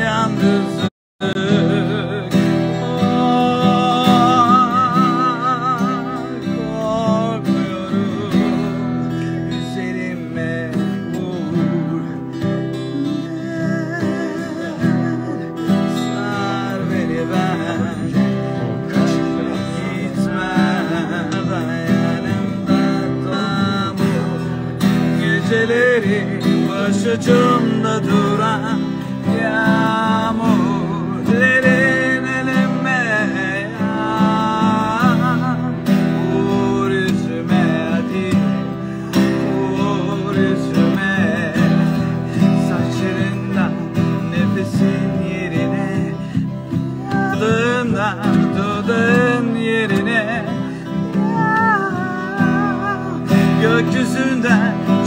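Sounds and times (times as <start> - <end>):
acoustic guitars playing: 0.0 - 55.0
man singing: 0.0 - 55.0.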